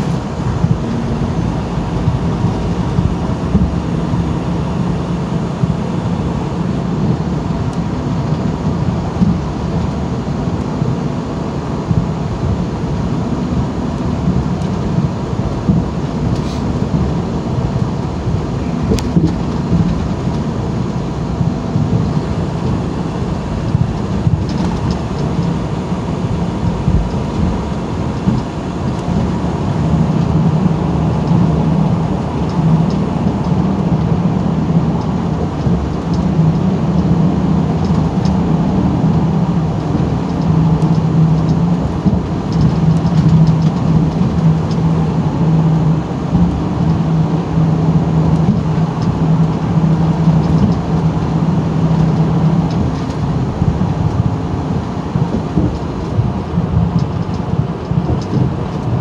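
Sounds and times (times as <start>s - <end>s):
diesel engine droning: 0.0s - 59.0s
tyres rumbling on road: 0.0s - 59.0s.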